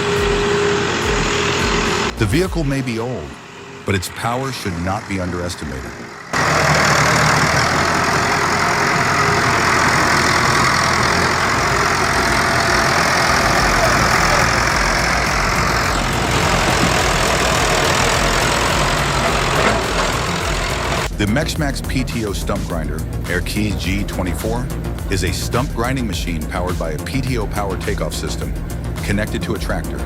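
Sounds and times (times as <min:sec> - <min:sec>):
heavy vehicle engine running: 0:00.0 - 0:30.0.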